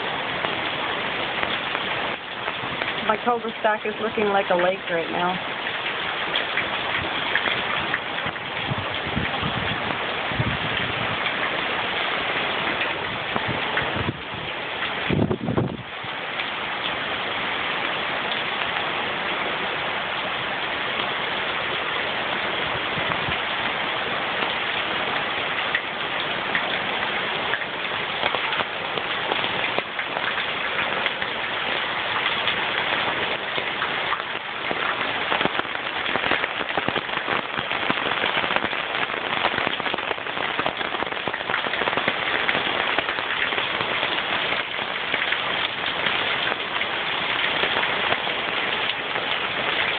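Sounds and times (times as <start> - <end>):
heavy rain on a flooded street: 0.0 - 49.9.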